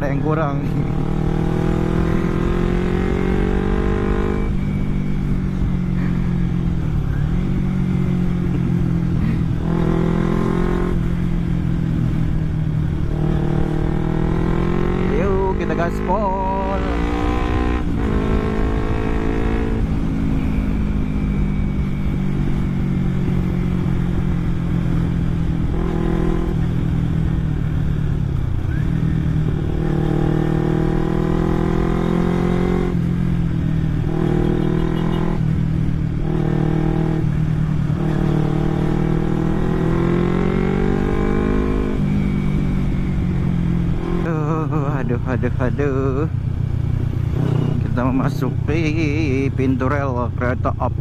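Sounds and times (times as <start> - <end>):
motorcycle engine at full throttle: 0.0 - 51.0.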